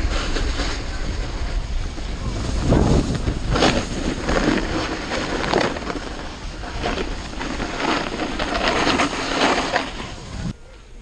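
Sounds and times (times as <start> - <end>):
snowboard scraping over snow: 0.0 - 10.5.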